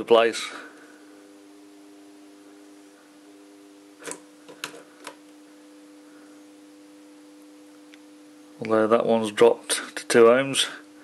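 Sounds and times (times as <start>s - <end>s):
contactor electrical hum: 0.0s - 11.0s.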